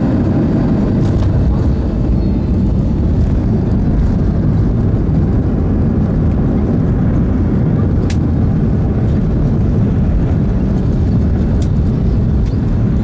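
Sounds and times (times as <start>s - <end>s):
airplane engine rumble: 0.0s - 13.0s.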